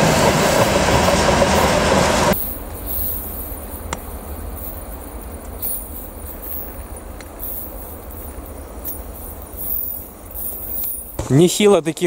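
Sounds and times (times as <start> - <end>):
train wheels rumbling on rail: 0.0 - 11.5.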